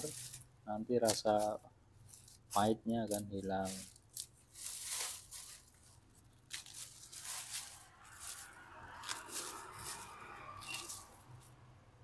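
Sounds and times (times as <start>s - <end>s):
plastic bag crinkling: 0.0s - 11.2s
hands tearing leaves: 1.0s - 11.6s.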